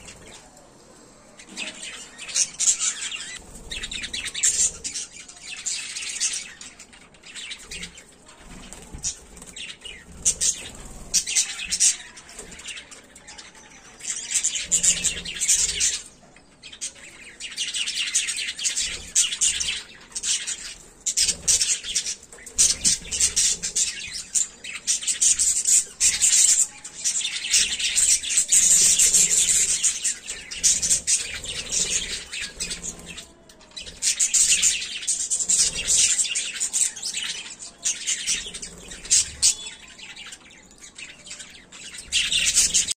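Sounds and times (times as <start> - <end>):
budgerigars chattering and chirping: 1.5 - 43.0.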